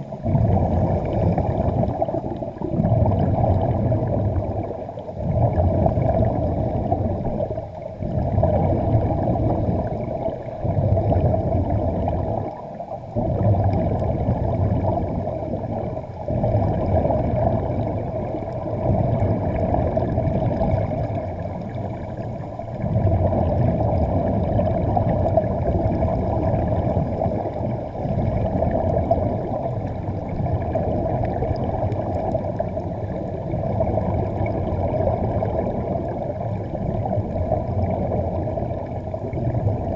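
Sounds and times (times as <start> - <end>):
muffled underwater rumble: 0.0 - 39.9
underwater bubbling: 0.0 - 39.9.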